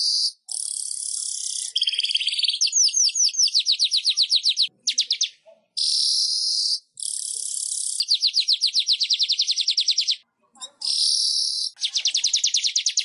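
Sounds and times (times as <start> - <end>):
weaver bird singing: 0.0 - 13.0.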